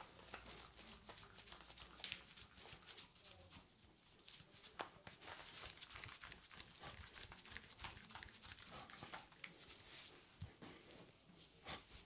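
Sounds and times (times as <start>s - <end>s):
hands massaging lathered skin: 0.0s - 10.1s
soft clicks and squishes: 0.0s - 12.0s.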